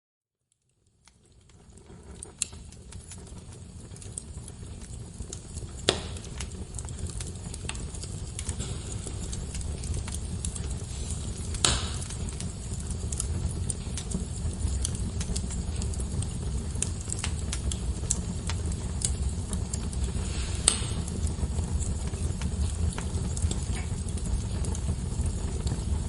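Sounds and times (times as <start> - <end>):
fire rumbling and crackling: 0.6 - 26.0
sharp pops from fire: 0.6 - 26.0.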